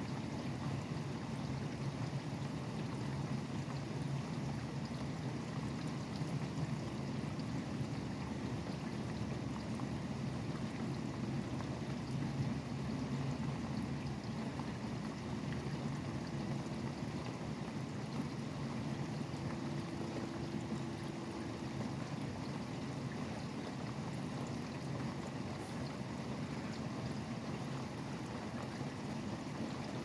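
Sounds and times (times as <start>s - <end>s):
faint steady hum: 0.0s - 30.0s
steady rain: 0.4s - 30.0s.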